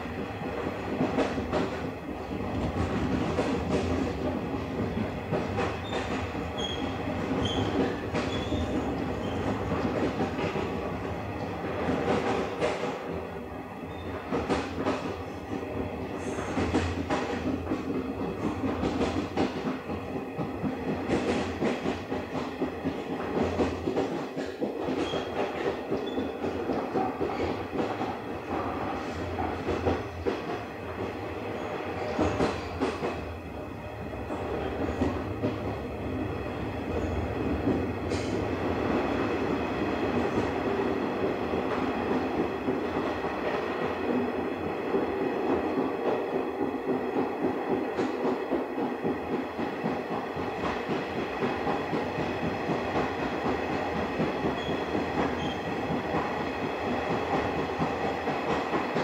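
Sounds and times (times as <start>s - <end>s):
clickety-clack over rail joints: 0.0s - 59.0s
train wheels rumbling on rail: 0.0s - 59.0s.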